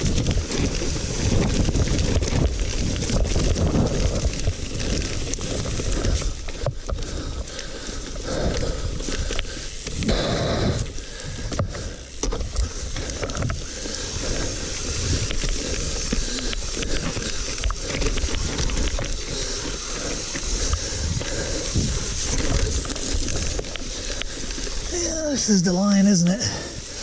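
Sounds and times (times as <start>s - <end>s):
bike clicks and rattles: 0.0s - 24.9s
bike tyres crunching over dirt: 0.0s - 27.0s.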